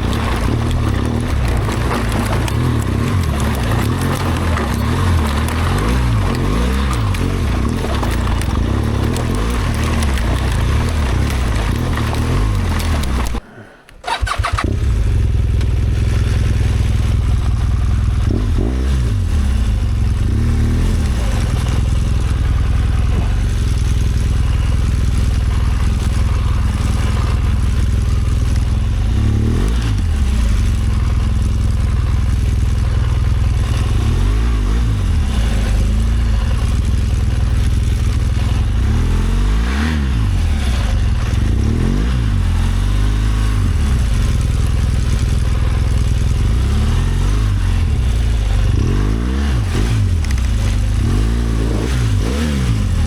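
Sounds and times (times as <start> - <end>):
motorcycle engine running: 0.0 - 13.4, 14.0 - 53.0.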